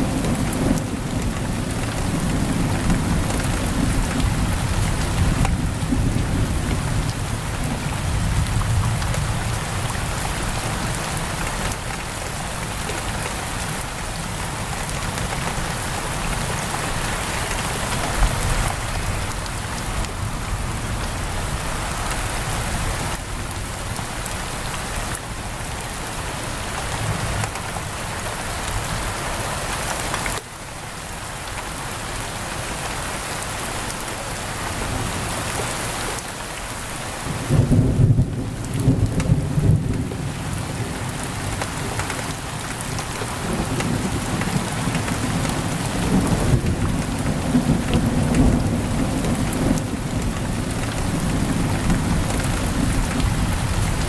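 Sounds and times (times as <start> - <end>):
heavy rain on a window: 0.0 - 54.0.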